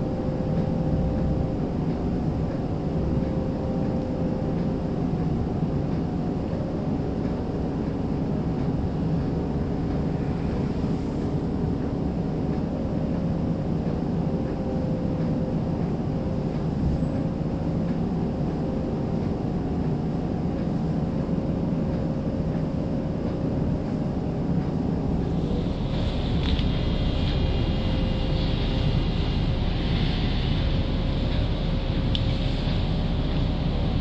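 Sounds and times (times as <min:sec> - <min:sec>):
faint motor whine: 0:00.0 - 0:34.0
streetcar wheels rumbling on rails: 0:00.0 - 0:34.0.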